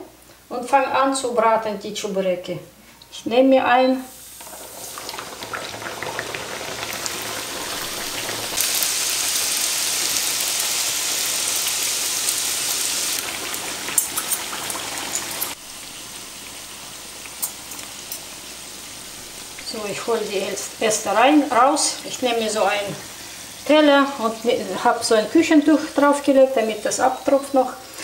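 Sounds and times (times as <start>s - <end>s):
oil sizzling and bubbling: 3.0s - 28.0s.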